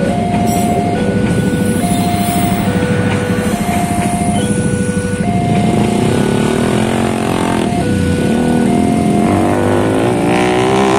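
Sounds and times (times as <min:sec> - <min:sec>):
motorcycle engines idling and revving: 0:00.0 - 0:10.9
two-tone crossing alarm: 0:00.0 - 0:10.9.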